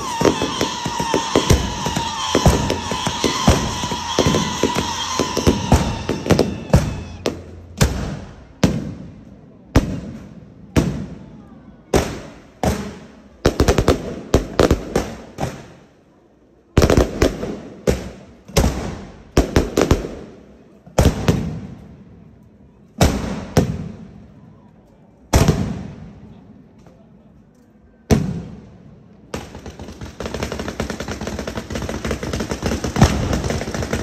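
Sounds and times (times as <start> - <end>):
fireworks exploding: 0.0 - 11.3, 11.9 - 15.8, 16.8 - 22.0, 23.0 - 24.2, 25.3 - 26.4, 28.1 - 34.0.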